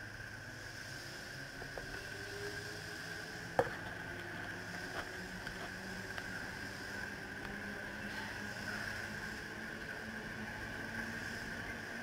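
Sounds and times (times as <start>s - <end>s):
constant high whine: 0.0s - 12.0s
train running noise: 0.0s - 12.0s.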